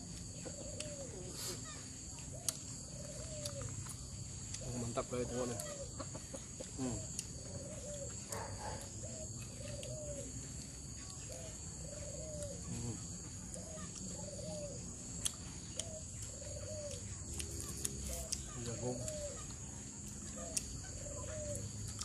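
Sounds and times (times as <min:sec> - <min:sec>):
bird calling: 0:00.0 - 0:22.0.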